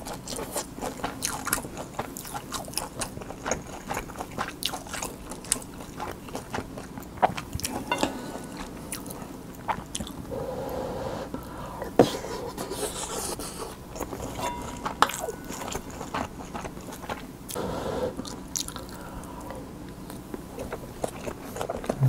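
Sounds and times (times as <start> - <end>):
chewing food: 0.0 - 10.3, 13.6 - 17.6, 18.2 - 22.0.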